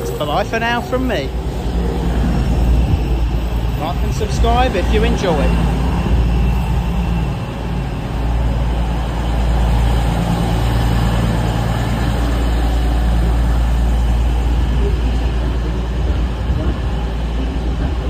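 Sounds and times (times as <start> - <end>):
diesel train rumbling: 0.0 - 18.0.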